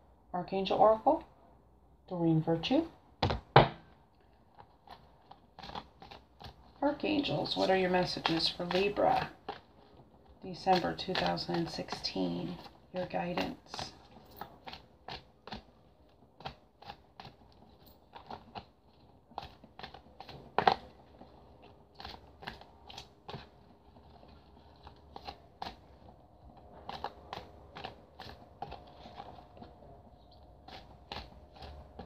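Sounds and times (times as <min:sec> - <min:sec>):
cards being shuffled: 0:04.5 - 0:32.0.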